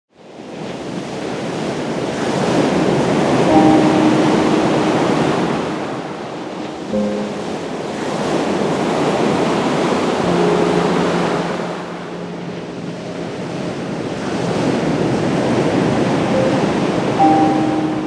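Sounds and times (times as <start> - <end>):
ocean waves breaking on beach: 0.1 - 18.0.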